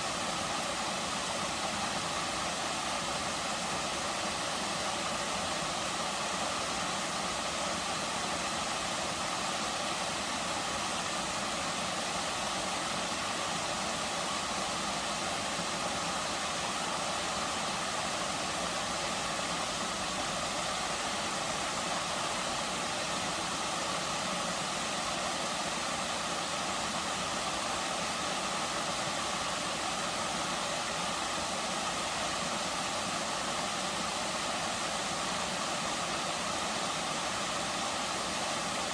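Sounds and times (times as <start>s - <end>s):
waterfall rushing into pool: 0.0s - 38.9s.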